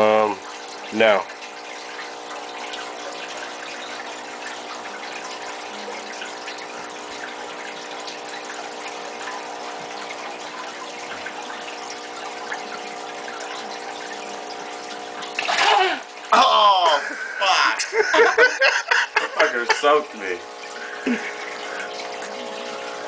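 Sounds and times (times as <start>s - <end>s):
electric hum: 0.0s - 23.0s
water trickling and bubbling: 0.0s - 23.0s.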